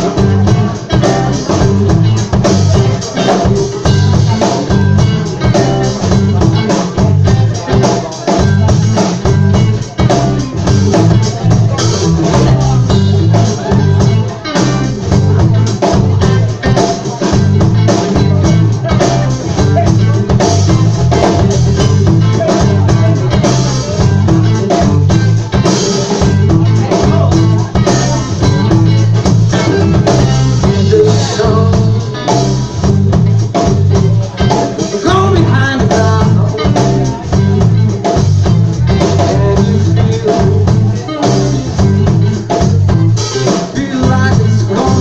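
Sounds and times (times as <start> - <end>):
bass line: 0.0 - 45.0
drum kit steady beat: 0.0 - 45.0
live band playing: 0.0 - 45.0.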